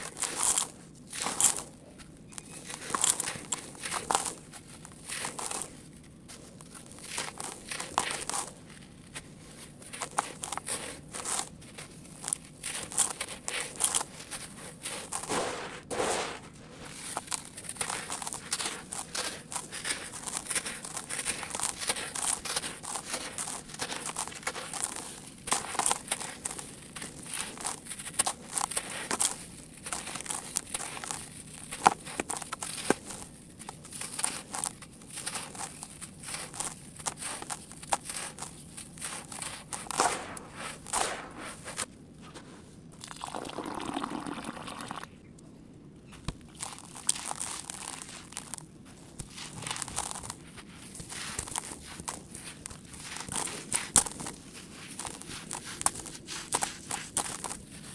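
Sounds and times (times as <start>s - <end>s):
hands crumbling dry grit: 0.0s - 1.8s, 2.4s - 42.6s, 46.2s - 57.9s.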